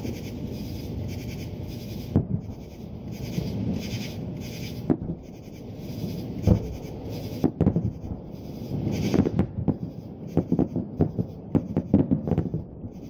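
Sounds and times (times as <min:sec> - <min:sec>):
fireworks booming overhead: 0:00.0 - 0:13.0.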